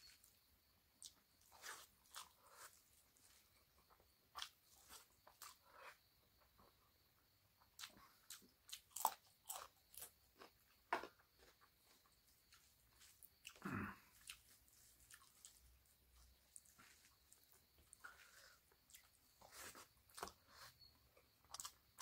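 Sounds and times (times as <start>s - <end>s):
crunchy chewing: 1.0s - 6.8s, 7.6s - 22.0s.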